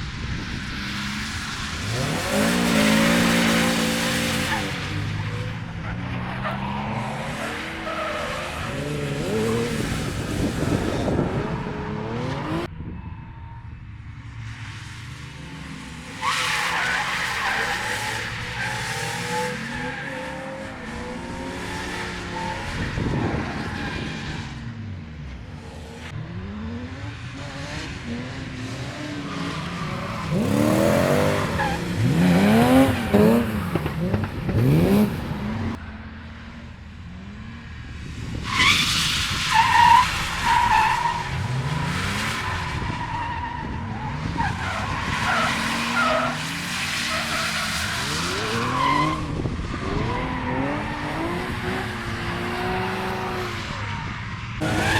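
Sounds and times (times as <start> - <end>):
car engines revving hard: 0.0 - 12.7, 15.0 - 35.8, 37.1 - 54.9
tyres squealing and skidding: 1.4 - 13.5, 15.4 - 24.7, 27.0 - 35.8, 38.3 - 54.9.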